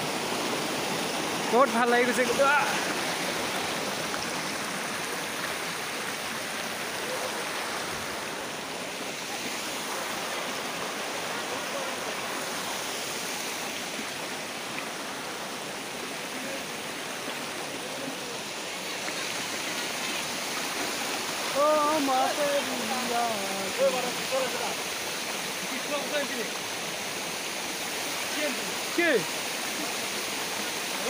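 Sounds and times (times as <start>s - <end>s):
water rushing over boulders: 0.0s - 31.0s.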